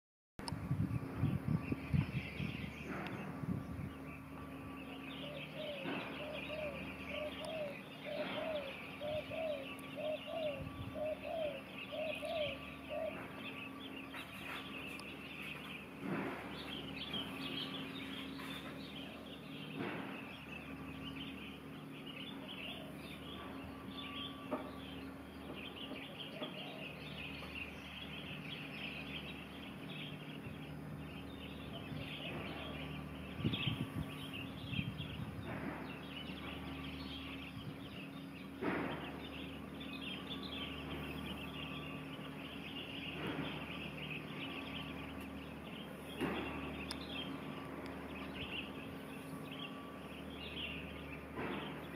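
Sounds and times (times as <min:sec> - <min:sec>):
low repeated bird calls: 0:00.4 - 0:51.9
steady low hum: 0:00.4 - 0:51.9
wild birds chirping: 0:00.5 - 0:51.9.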